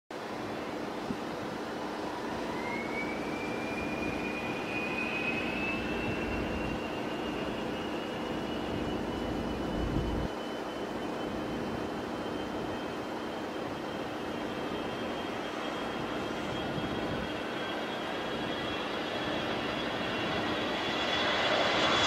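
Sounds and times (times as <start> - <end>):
jet turbofans whining: 0.2 - 22.0.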